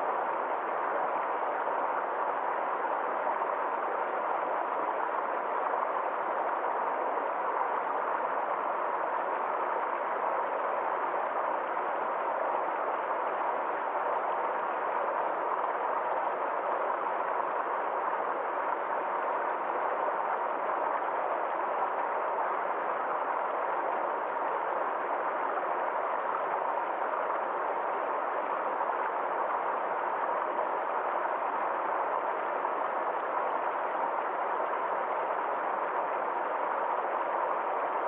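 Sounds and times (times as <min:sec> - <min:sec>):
stream flowing: 0:00.0 - 0:38.0.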